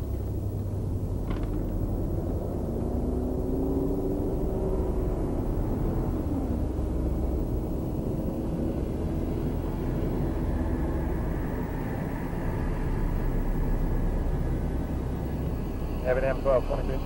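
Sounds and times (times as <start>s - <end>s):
car engine and tyre rumble: 0.0s - 17.0s
faint drone: 0.0s - 17.0s.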